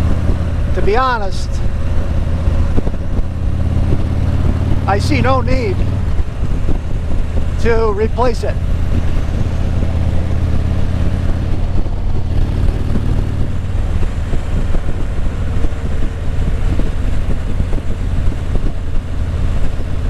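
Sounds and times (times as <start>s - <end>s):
motorcycle engine rumble: 0.0s - 20.0s
wind noise on microphone: 0.0s - 20.0s.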